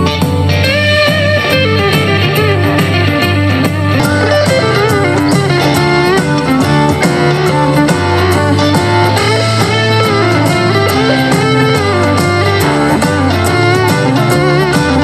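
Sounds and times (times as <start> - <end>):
guitar music through a speaker: 0.0 - 15.0.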